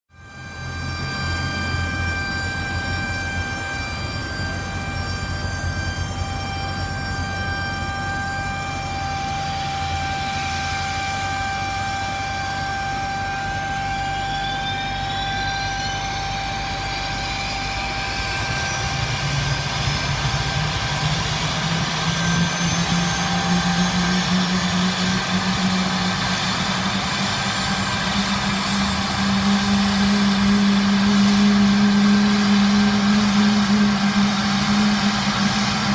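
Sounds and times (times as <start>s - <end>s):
steady multi-tone jet whine: 0.1s - 35.9s
jet engine spooling up: 0.2s - 35.9s.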